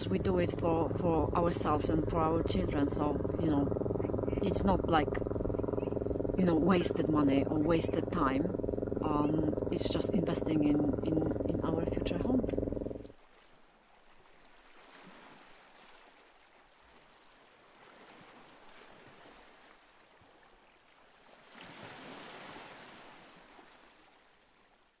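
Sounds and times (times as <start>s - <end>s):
faint waves washing on shore: 0.0s - 24.9s.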